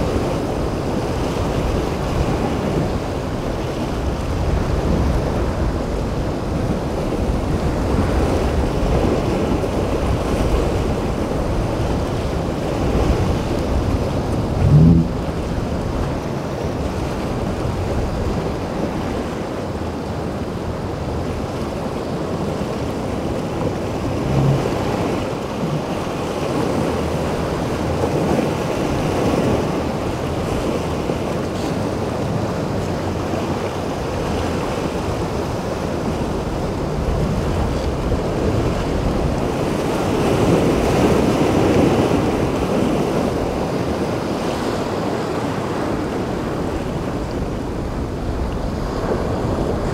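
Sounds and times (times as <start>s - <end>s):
waves breaking: 0.0s - 49.9s
wind buffeting microphone: 0.0s - 49.9s.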